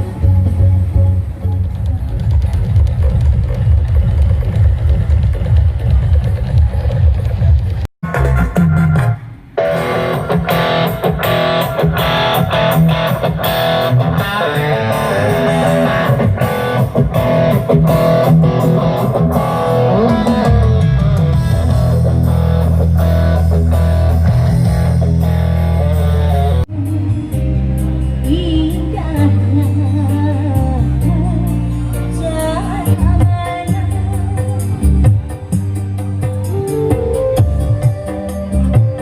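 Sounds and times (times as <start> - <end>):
guitar-led music over sound system: 0.0 - 39.0
heavy steady bass line: 0.0 - 39.0.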